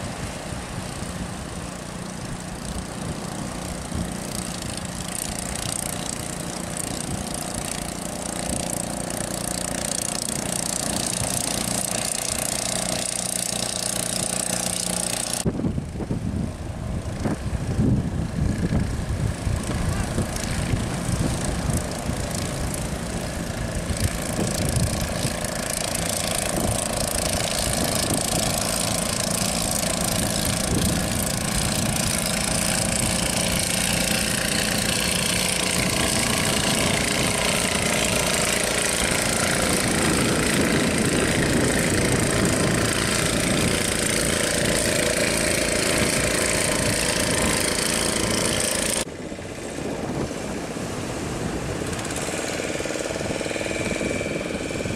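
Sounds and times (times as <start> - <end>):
outboard motors running: 0.0 - 54.9.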